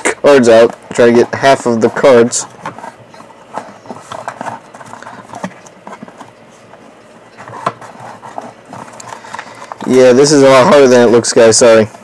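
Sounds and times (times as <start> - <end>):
cards and cardboard rustling: 0.0 - 12.0.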